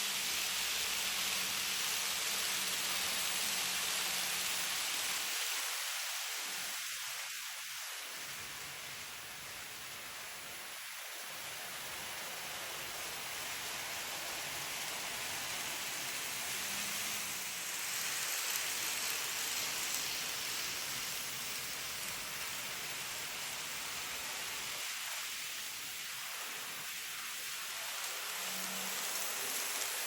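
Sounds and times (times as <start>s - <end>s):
model train rolling: 0.0s - 8.8s, 9.5s - 30.0s.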